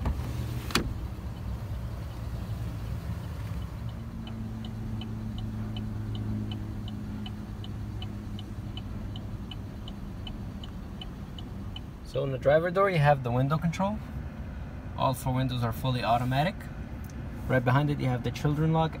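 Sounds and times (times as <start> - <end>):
engine idling low hum: 0.0 - 19.0.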